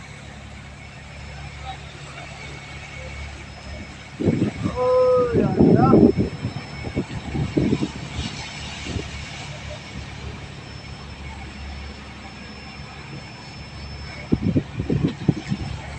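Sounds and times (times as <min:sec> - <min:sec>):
boat engine droning: 0:00.0 - 0:15.9.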